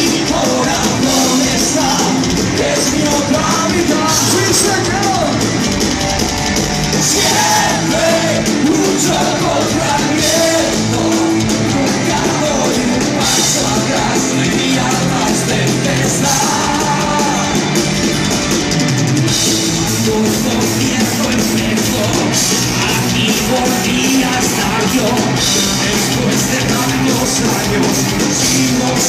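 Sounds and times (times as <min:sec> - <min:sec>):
man singing: 0:00.0 - 0:05.5, 0:07.0 - 0:17.7, 0:19.7 - 0:29.0
bass guitar: 0:00.0 - 0:29.0
drum kit with cymbals: 0:00.0 - 0:29.0
electric guitars: 0:00.0 - 0:29.0.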